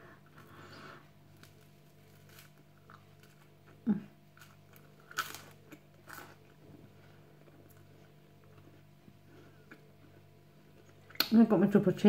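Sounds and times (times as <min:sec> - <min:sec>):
person crunching toast: 0:00.3 - 0:11.0.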